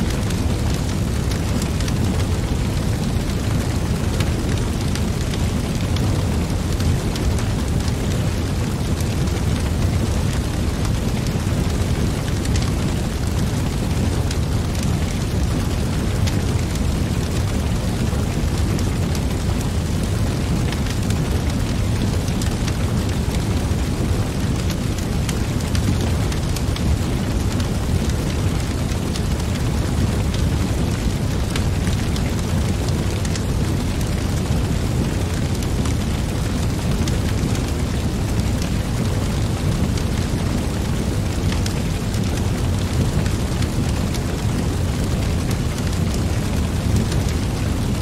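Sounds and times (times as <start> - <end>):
fire crackling and popping: 0.0 - 48.0
fire rushing: 0.0 - 48.0.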